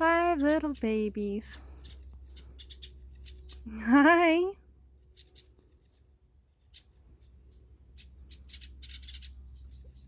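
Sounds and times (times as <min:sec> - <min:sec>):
nestling birds chirping: 0:00.0 - 0:10.0.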